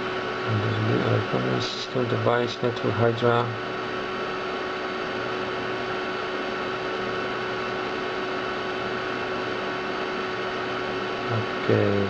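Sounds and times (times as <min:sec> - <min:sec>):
computer hard drive humming: 0:00.0 - 0:12.0
constant whine: 0:00.0 - 0:12.0.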